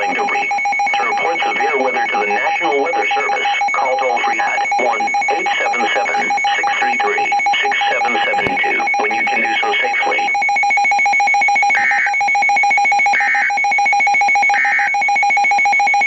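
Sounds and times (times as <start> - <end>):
digital data bursts: 0.0 - 16.0.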